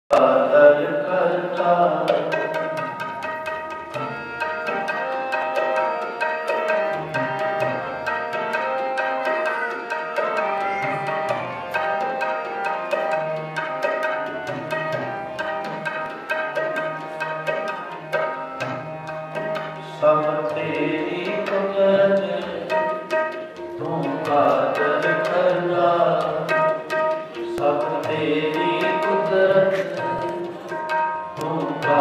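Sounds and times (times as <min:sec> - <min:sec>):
harmonium melody: 0:00.1 - 0:32.0
tabla drumming: 0:00.1 - 0:32.0.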